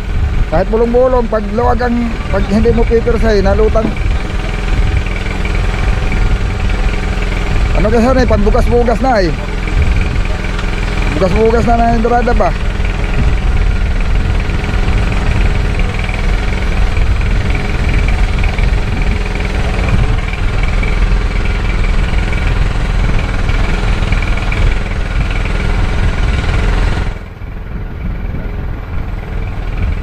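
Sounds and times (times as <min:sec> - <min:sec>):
boat engine running steadily: 0:00.0 - 0:30.0.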